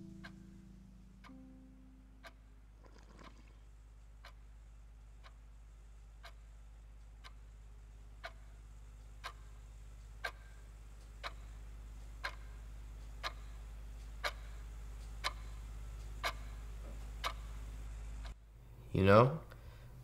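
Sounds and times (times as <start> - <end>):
clock ticking: 0.0 - 3.5, 4.2 - 4.5, 5.1 - 5.5, 6.2 - 18.4
low steady hum: 0.0 - 20.0.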